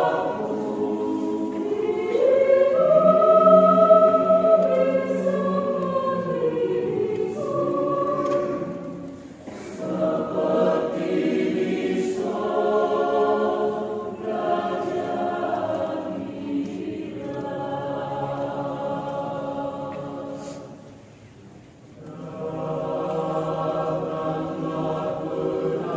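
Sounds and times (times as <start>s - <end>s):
mixed choir singing in parts: 0.0s - 21.2s, 22.0s - 25.9s.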